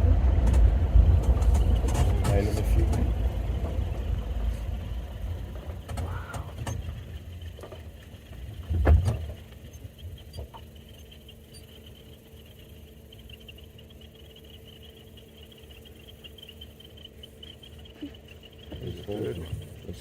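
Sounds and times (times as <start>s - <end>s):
vehicle engine rumble: 0.0s - 20.0s
insects chirring: 1.0s - 20.0s.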